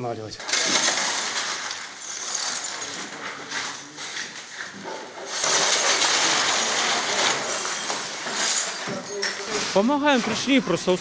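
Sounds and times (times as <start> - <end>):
rubble and glass clinking: 0.2 - 10.5
debris scraping and rattling: 0.3 - 10.6.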